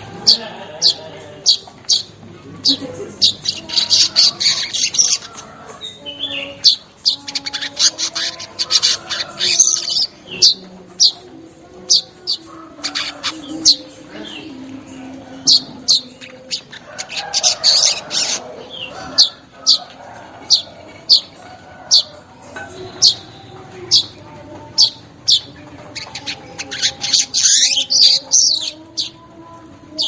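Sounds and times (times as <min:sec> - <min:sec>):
rapid chattering bird notes: 0:00.0 - 0:29.2.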